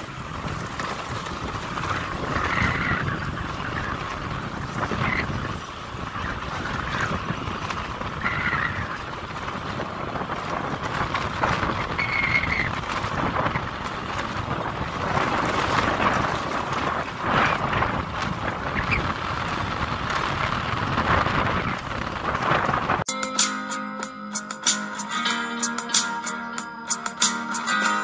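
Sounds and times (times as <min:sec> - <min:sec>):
motorbike engines running: 0:00.0 - 0:23.1
wind buffeting microphone: 0:00.0 - 0:23.1.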